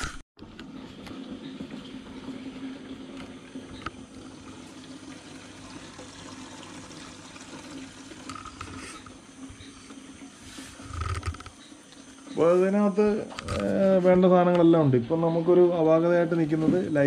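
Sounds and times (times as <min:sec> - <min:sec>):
water trickling: 0:00.6 - 0:17.0.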